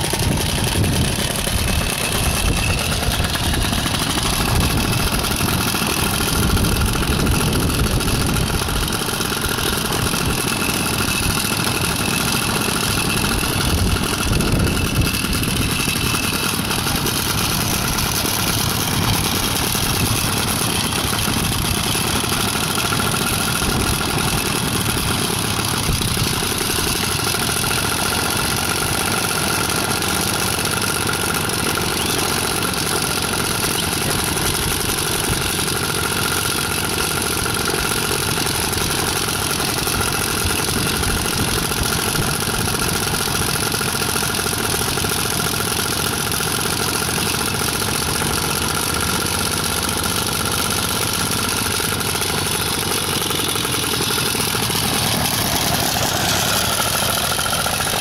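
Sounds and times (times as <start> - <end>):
paramotor engine idling: 0.0 - 58.0.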